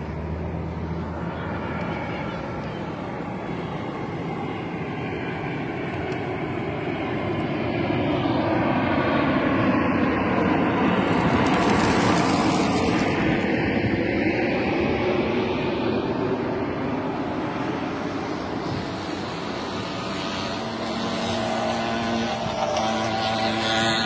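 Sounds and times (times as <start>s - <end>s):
engine rumble passing: 0.0s - 24.0s.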